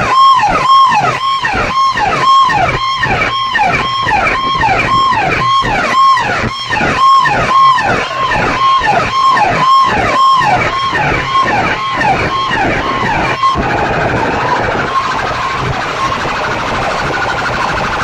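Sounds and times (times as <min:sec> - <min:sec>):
low beat: 0:00.0 - 0:17.9
falling synth sweep: 0:00.0 - 0:18.0
loud electronic music: 0:00.0 - 0:18.0.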